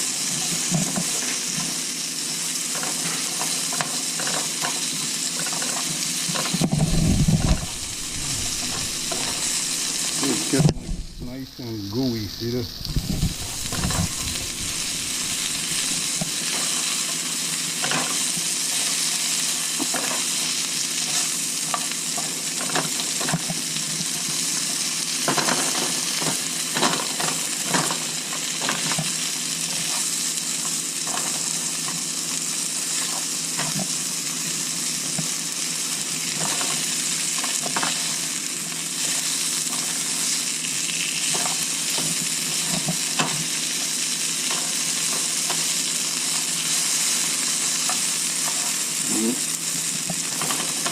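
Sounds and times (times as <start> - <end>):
food sizzling in a frying pan: 0.0 - 50.9.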